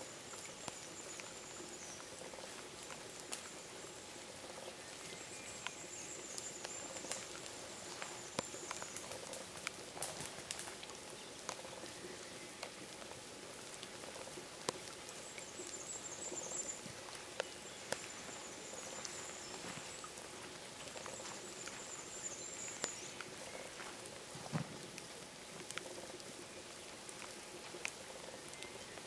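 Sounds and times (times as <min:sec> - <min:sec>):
rain pattering and dripping: 0:00.0 - 0:29.0.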